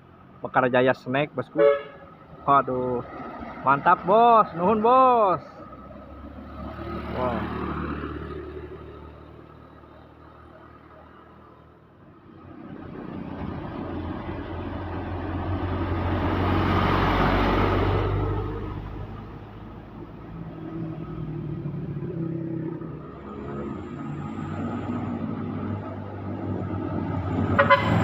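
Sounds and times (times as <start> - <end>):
truck driving past: 1.8 - 28.0.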